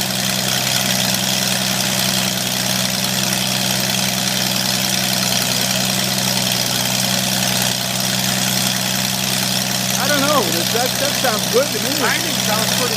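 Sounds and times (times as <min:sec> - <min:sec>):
aircraft engine idling: 0:00.0 - 0:12.9.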